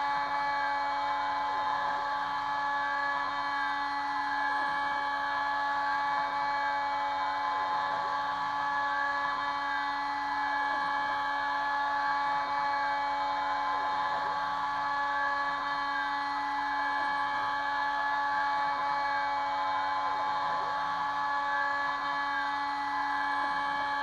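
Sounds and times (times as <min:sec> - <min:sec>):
cnc router spindle whine: 0:00.0 - 0:24.0.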